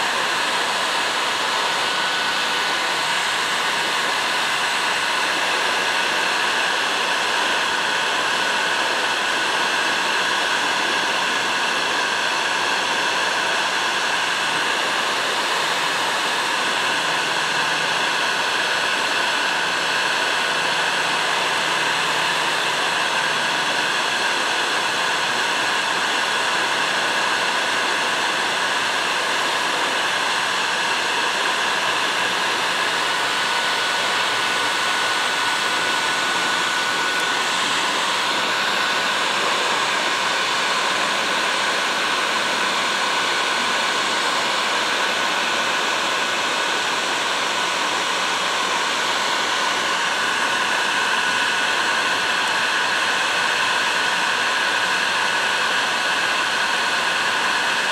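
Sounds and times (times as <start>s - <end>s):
heat gun blowing air: 0.0s - 57.9s.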